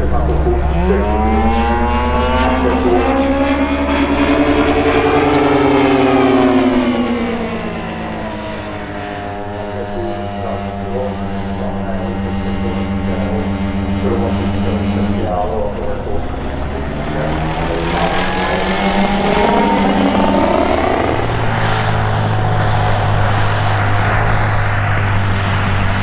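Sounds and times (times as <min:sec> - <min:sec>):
model airplane engine: 0:00.0 - 0:26.0.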